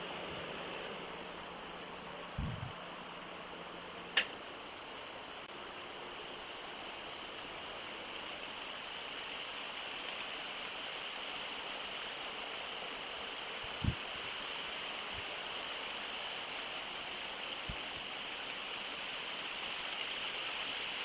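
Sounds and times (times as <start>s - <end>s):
outdoor ambient hiss: 0.0s - 21.0s.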